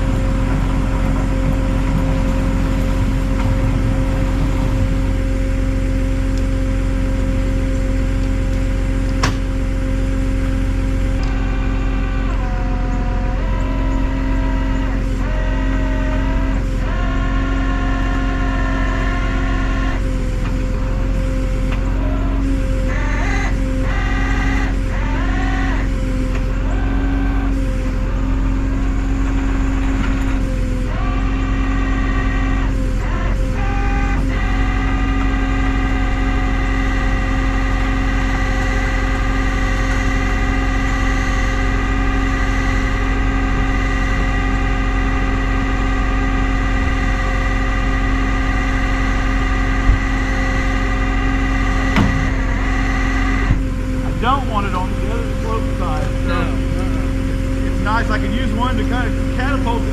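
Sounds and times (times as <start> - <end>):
truck engine droning: 0.0 - 59.9
winch whine: 0.0 - 59.9.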